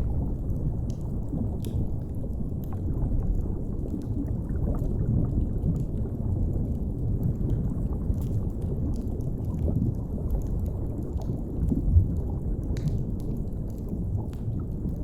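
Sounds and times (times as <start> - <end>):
faint fireplace crackles: 0.0 - 15.0
low underwater rumble: 0.0 - 15.0.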